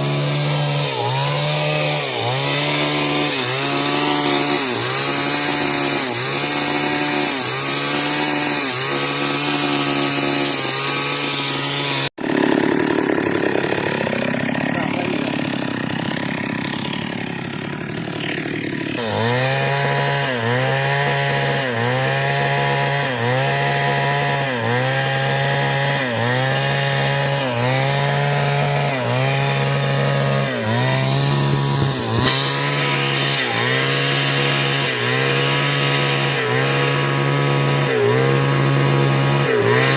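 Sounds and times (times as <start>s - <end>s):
chainsaw cutting wood: 0.0s - 39.9s
chainsaw running: 0.0s - 39.9s.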